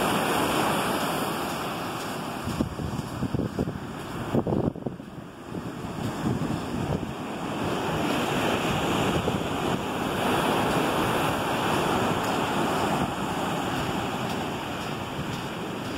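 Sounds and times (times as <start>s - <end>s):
ocean surf breaking on beach: 0.0s - 15.9s.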